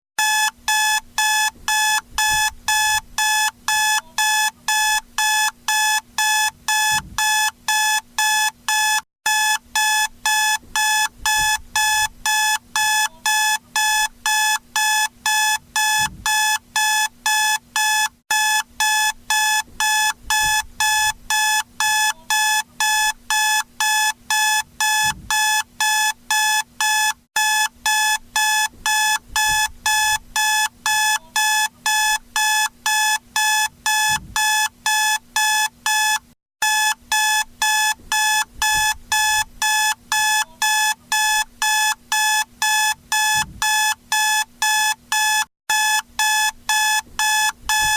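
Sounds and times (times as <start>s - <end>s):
electronic alarm clock beeping: 0.2s - 47.9s.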